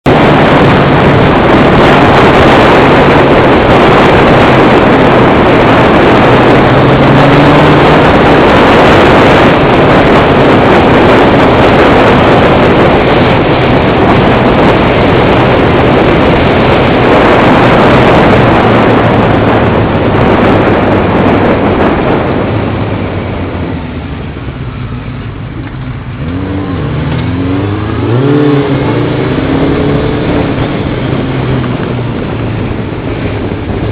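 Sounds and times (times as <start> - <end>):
motorcycle engine revving: 0.0 - 24.6, 25.4 - 33.9
wind rush on microphone: 0.0 - 33.9.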